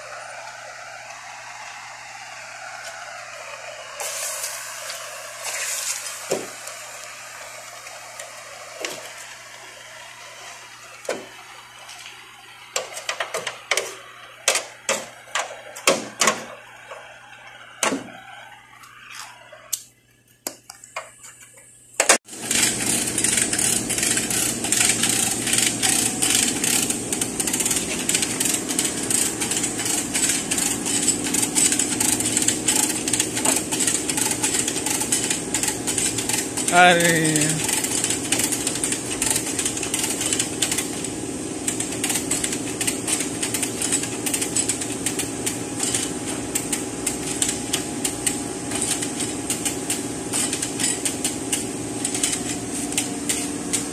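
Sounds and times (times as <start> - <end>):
loud fast mechanical rattle: 0.0 - 19.1, 22.0 - 53.9
cutting torch hissing: 0.0 - 19.9, 22.0 - 53.9.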